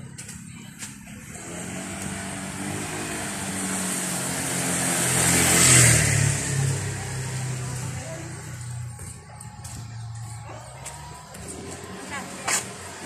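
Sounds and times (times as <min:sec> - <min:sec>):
motor scooter passing by: 0:01.1 - 0:13.0.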